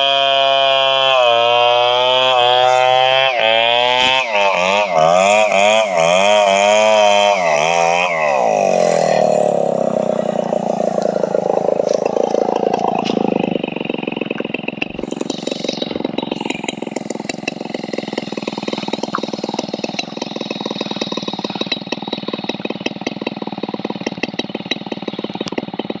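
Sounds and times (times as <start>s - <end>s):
chainsaw engine idling: 0.0s - 26.0s.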